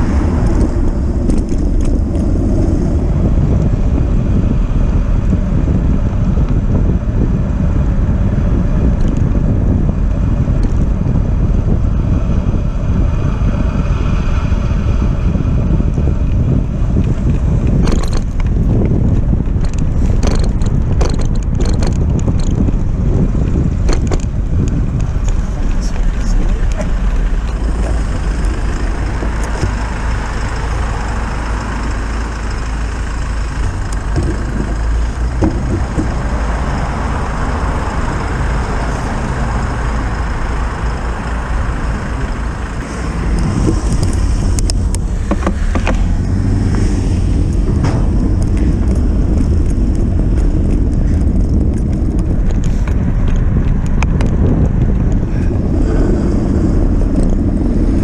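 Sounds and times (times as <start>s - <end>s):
passing cars and vans: 0.0s - 58.0s
wind rumbling on microphone: 0.0s - 58.0s.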